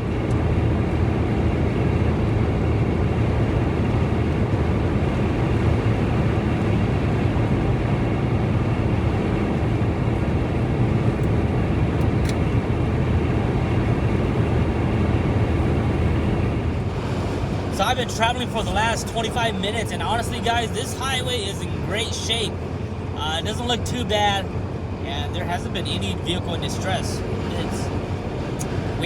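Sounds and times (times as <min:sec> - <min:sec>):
road and engine noise in car: 0:00.0 - 0:29.0.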